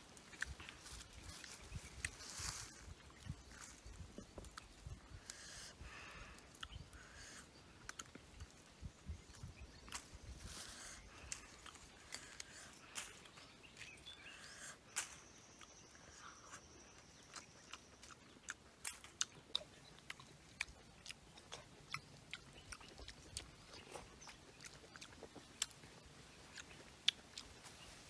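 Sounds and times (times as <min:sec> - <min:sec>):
chewing and biting: 0:00.1 - 0:05.4, 0:06.3 - 0:27.8.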